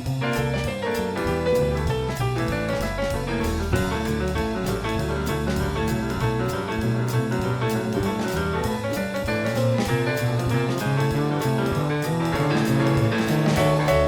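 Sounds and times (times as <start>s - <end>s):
instrumental jazz band: 0.0s - 14.0s.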